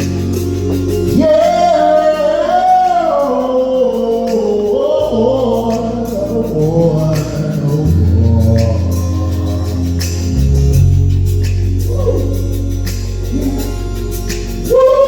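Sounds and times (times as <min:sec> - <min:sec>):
person singing gospel: 0:00.0 - 0:10.9, 0:11.8 - 0:15.0
sustained bass notes: 0:00.0 - 0:15.0.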